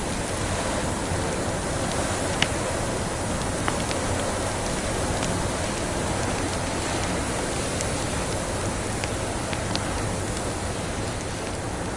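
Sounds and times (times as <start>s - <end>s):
wood fire crackling: 0.0s - 11.9s.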